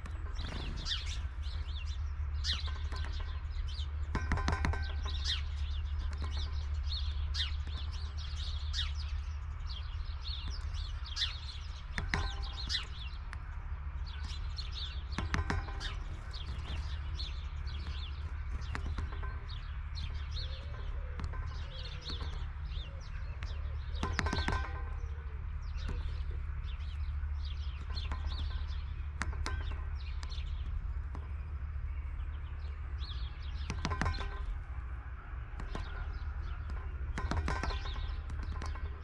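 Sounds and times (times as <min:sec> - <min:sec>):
sharp knocks: 0:00.0 - 0:08.2, 0:10.3 - 0:31.5, 0:32.1 - 0:34.8, 0:35.4 - 0:39.0
small birds chirping: 0:00.0 - 0:39.0
steady low rumble: 0:00.0 - 0:39.0.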